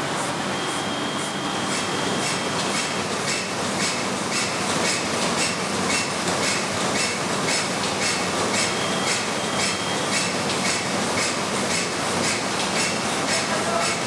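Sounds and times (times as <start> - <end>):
printing press rumble: 0.0 - 14.0.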